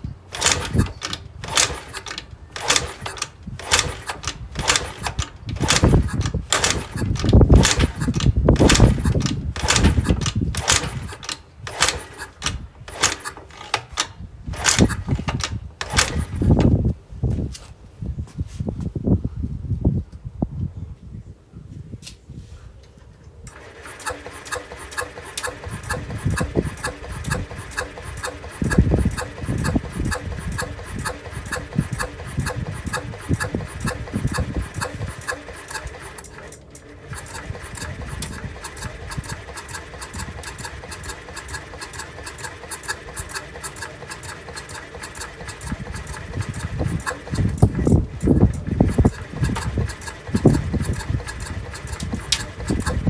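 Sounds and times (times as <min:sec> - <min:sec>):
moped engine running: 0:00.0 - 0:14.0, 0:14.6 - 0:16.7, 0:23.5 - 0:53.0.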